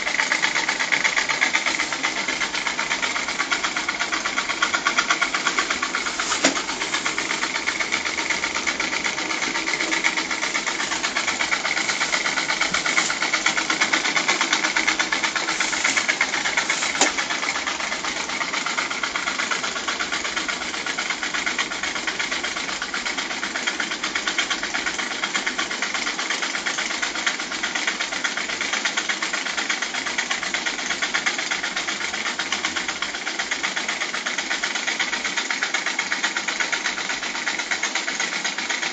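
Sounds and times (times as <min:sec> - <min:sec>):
steam engine running: 0:00.0 - 0:38.9.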